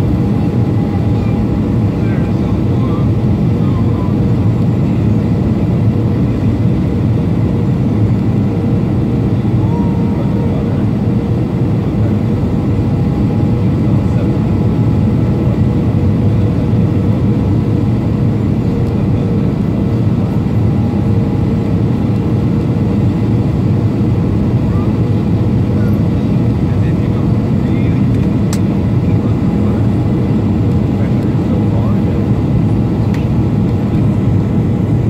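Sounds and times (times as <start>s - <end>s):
jet engine rumble and rushing air: 0.0s - 35.0s.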